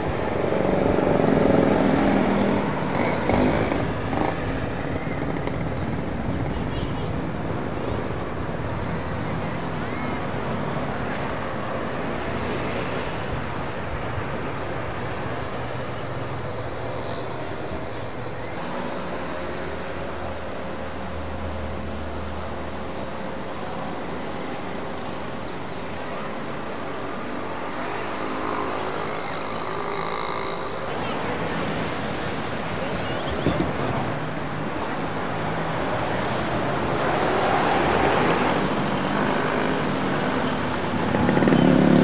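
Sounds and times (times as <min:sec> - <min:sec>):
town traffic noise: 0:00.0 - 0:42.0.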